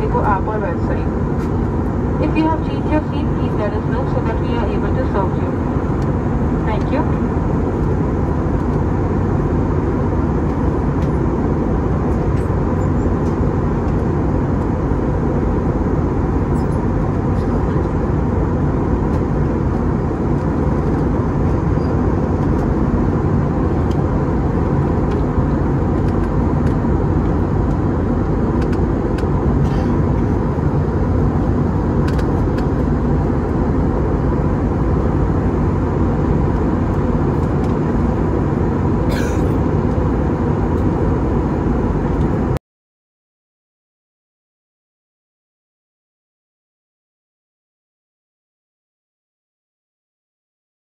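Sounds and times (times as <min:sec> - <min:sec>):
airliner engine rumble: 0:00.0 - 0:42.6
faint steady whine: 0:00.0 - 0:42.6.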